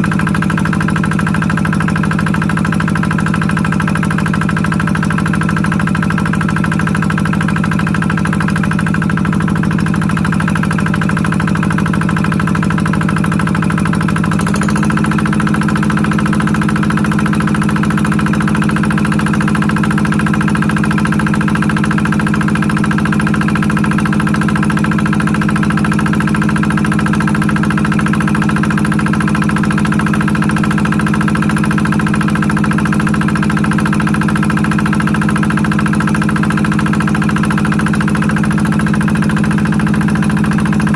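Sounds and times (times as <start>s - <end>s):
water pump engine running: 0.0s - 40.9s.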